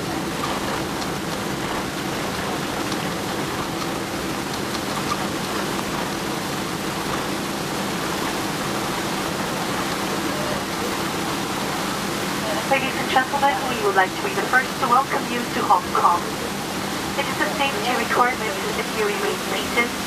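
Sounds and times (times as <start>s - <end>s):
airliner cabin engine and airflow noise: 0.0s - 20.0s.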